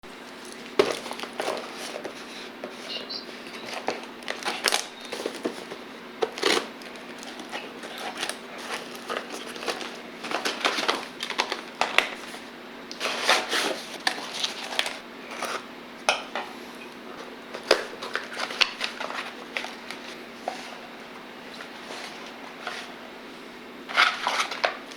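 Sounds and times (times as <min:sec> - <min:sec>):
plastic and cardboard crinkling: 0:00.3 - 0:15.6, 0:17.1 - 0:23.0, 0:23.9 - 0:24.9.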